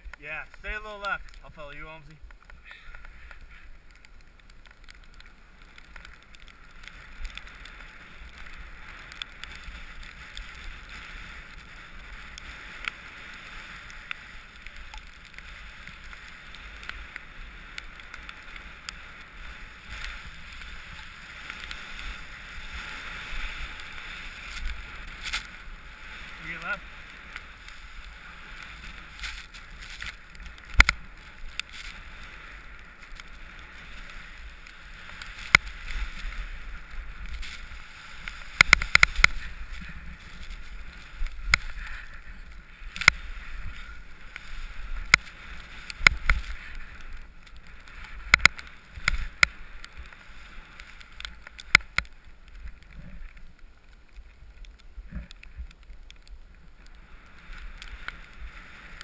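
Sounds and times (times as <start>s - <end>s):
skis hissing through snow: 5.0s - 51.5s, 56.9s - 59.0s.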